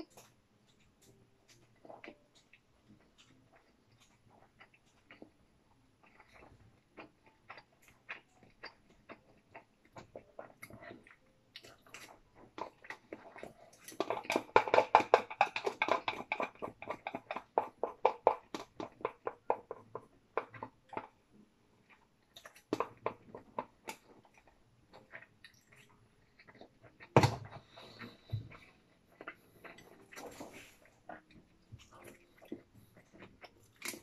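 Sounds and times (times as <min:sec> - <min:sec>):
chewing: 0:00.0 - 0:34.0.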